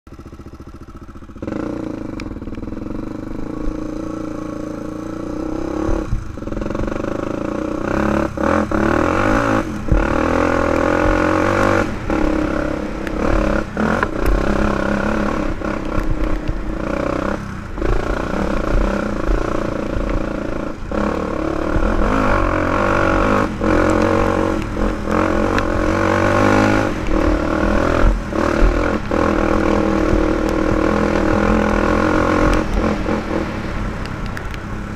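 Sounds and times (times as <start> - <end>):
quad engine revving: 1.4 - 34.2.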